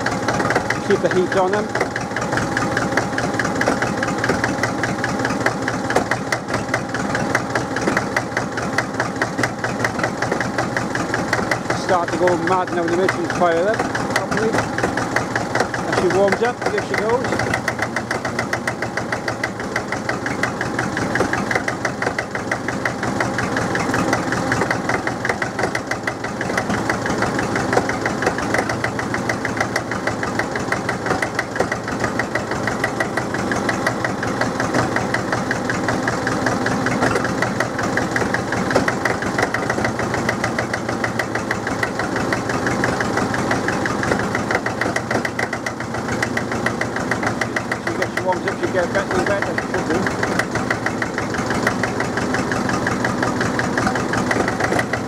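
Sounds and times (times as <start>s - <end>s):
diesel engine warming up: 0.0s - 55.0s.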